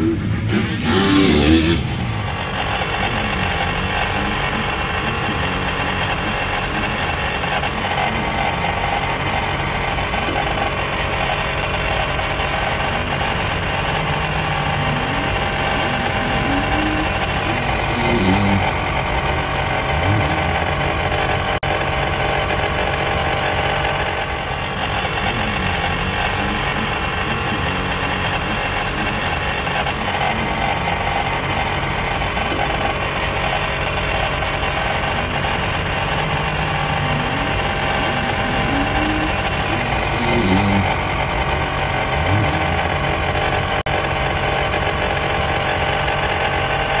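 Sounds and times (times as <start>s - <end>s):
dirt bike engines revving: 0.0s - 47.0s.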